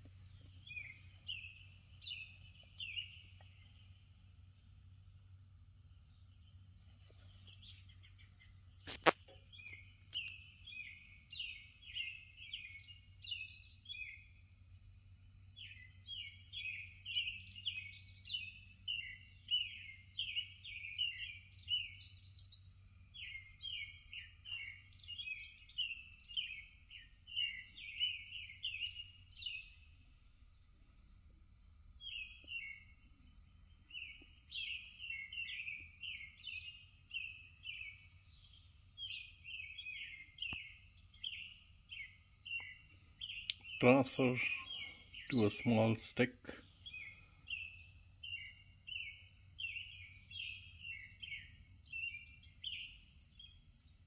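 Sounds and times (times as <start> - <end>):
faint steady low hum: 0.0 - 54.0
songbird singing: 0.0 - 54.0.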